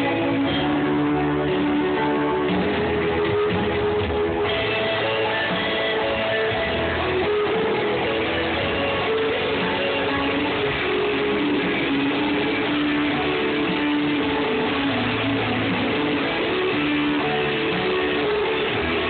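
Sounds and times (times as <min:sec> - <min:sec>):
live rock band with electric guitars: 0:00.0 - 0:19.0.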